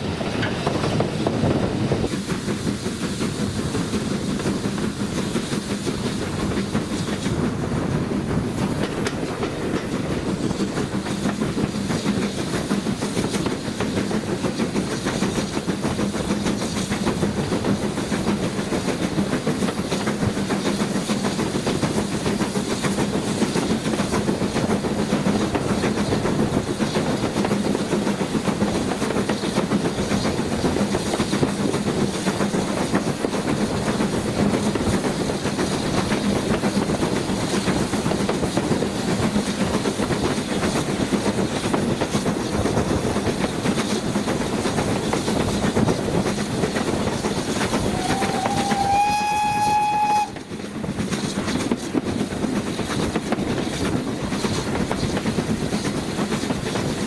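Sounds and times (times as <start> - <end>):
train wheels on track: 0.0 - 57.0.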